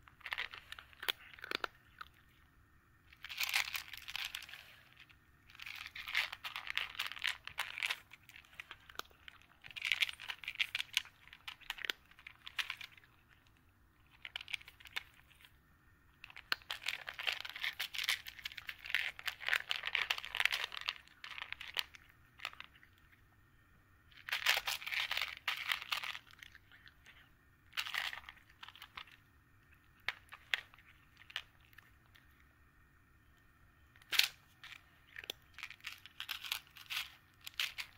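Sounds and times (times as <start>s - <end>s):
cat crunching dry kibble: 0.0s - 37.9s.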